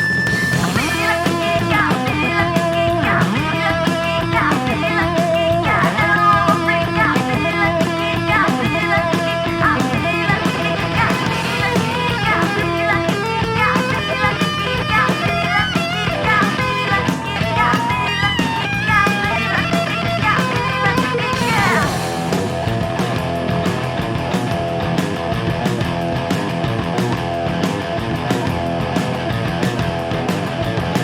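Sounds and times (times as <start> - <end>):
rock song with guitars: 0.0 - 31.0.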